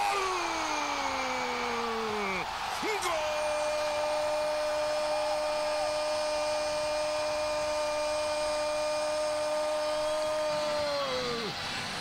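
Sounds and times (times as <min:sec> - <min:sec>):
commentator's drawn-out goal cry: 0:00.0 - 0:11.6.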